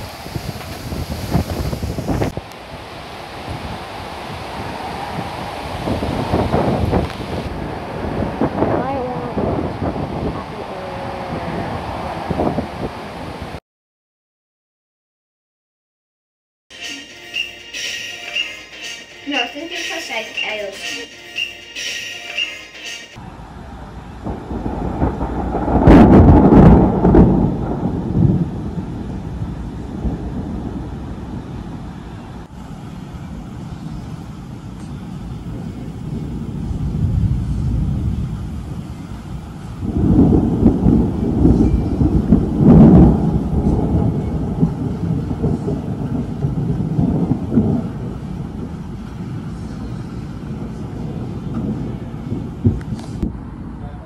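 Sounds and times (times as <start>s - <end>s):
thunder rumbling with sharp cracks: 0.0s - 13.6s, 23.6s - 53.8s.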